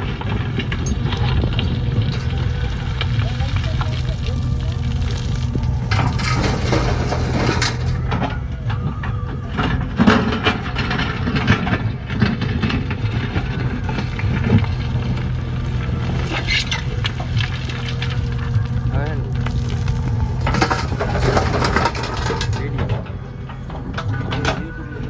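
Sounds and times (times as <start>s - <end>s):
diesel engine running under load: 0.0s - 25.0s
earth and stones crunching: 0.0s - 25.0s.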